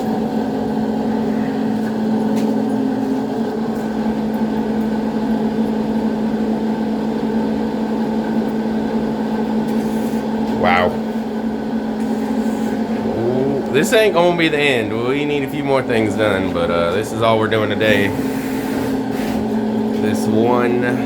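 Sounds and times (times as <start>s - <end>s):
motor running with even hum: 0.0s - 21.0s.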